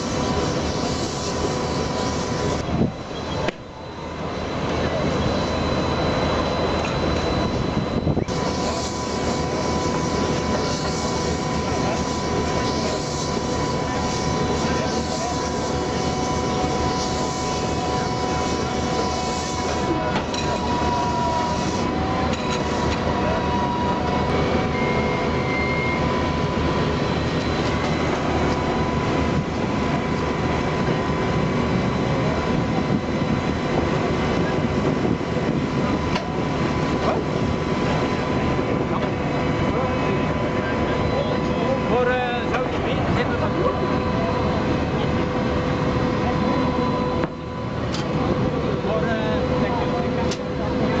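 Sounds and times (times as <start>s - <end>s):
high machine whine: 0.0s - 51.0s.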